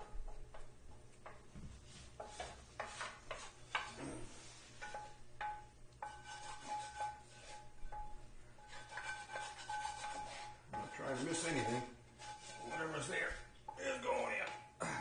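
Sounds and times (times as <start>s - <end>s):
spatula scraping frying pans: 1.8s - 14.3s.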